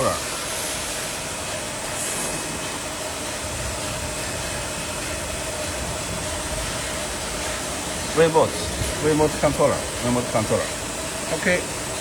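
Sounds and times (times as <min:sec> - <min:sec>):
factory machinery humming: 0:00.0 - 0:12.0.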